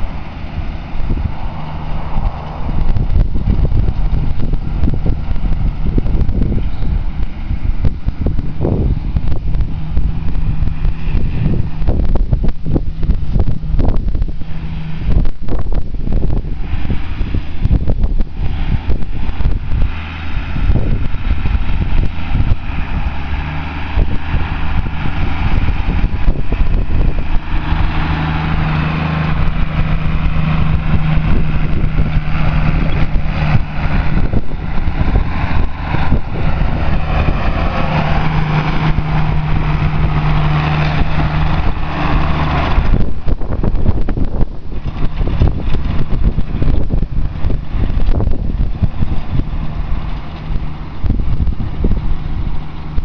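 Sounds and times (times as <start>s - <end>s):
tractor engine running under load: 0.0s - 53.0s.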